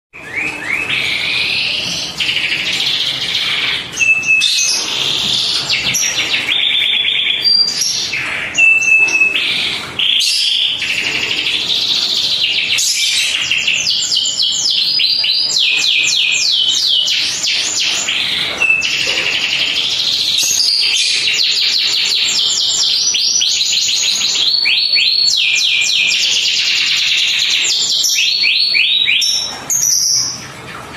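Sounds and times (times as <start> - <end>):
canary singing trills: 0.2 - 30.6.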